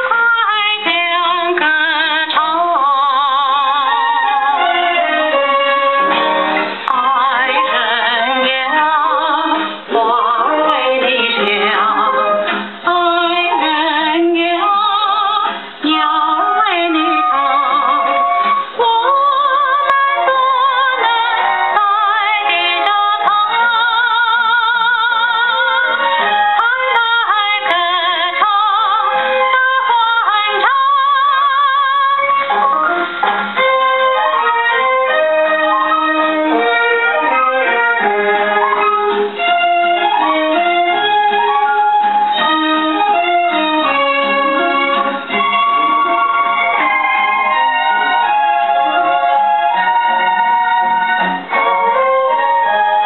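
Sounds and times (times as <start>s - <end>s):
small orchestra: 0.0s - 53.0s
woman singing with vibrato: 0.0s - 53.0s.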